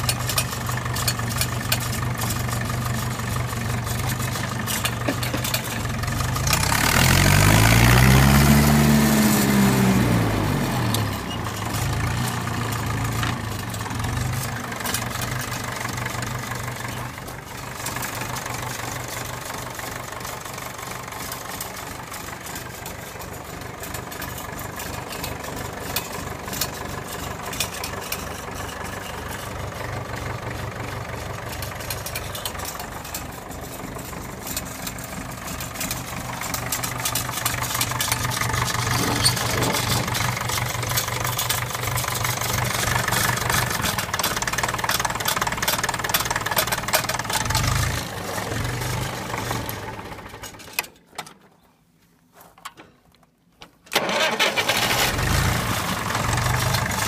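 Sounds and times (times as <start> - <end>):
tractor diesel engine idling: 0.0 - 51.1, 53.9 - 57.0.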